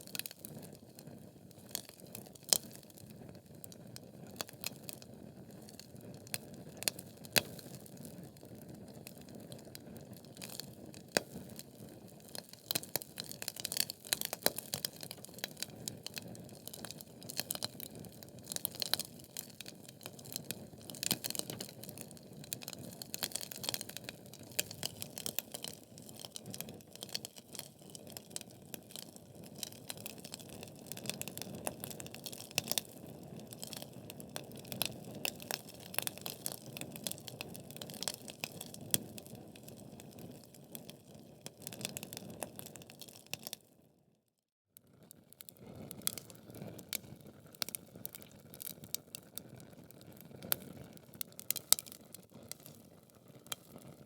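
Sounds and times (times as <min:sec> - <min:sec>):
logs crackling and popping: 0:00.0 - 0:43.6, 0:45.5 - 0:53.9.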